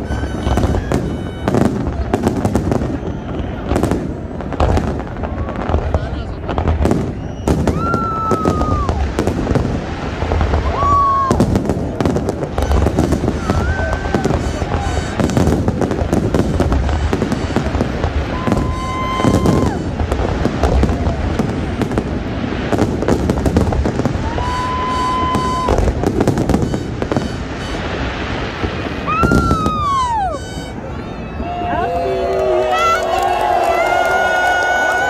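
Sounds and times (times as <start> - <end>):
firework whistles: 0.0 - 5.8, 6.8 - 32.0
fireworks bangs and crackling: 0.0 - 35.0.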